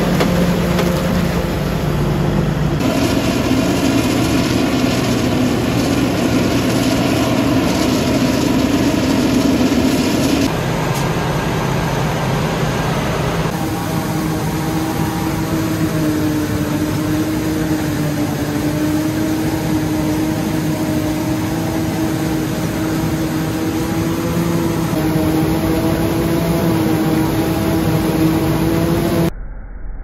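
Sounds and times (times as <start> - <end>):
harvester mechanical drone: 0.0 - 30.0
steady mechanical whine: 0.0 - 30.0.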